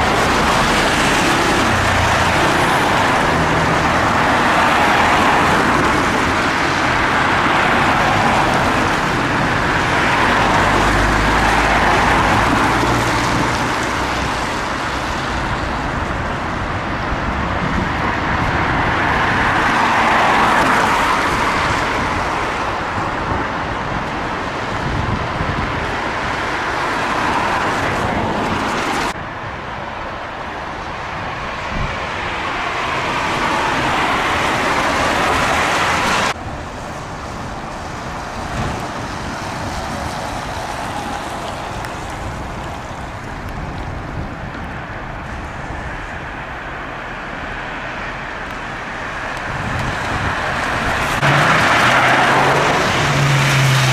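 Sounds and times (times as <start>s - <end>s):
cars passing by: 0.0s - 53.9s.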